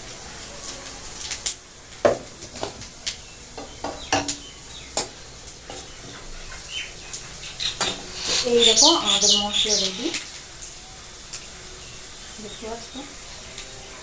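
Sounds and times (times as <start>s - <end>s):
faint sizzle: 0.0s - 14.0s.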